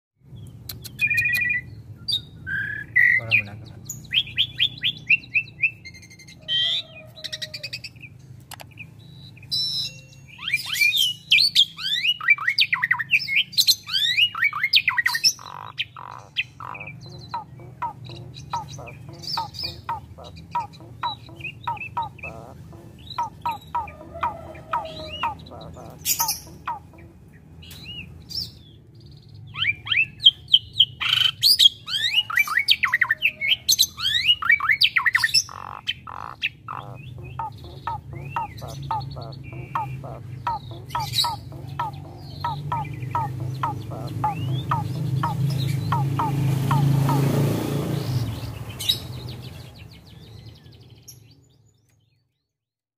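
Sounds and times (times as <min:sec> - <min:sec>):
starling singing: 0:00.6 - 0:28.8, 0:29.4 - 0:50.6.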